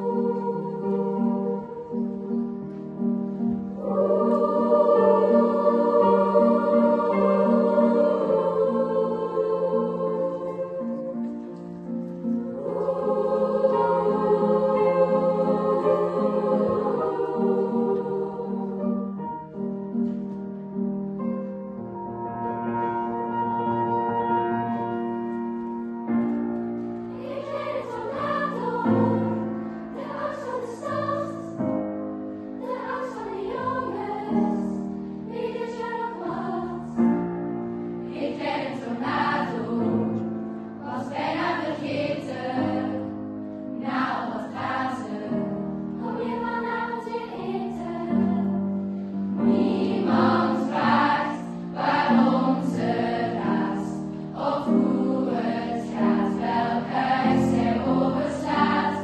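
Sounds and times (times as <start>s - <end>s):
choir singing held notes: 0.0s - 20.0s, 22.0s - 59.0s.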